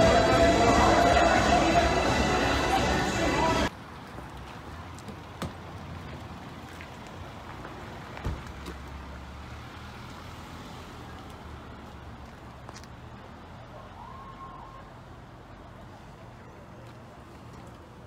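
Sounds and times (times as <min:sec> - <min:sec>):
outdoor rumble and hiss: 0:00.0 - 0:18.0.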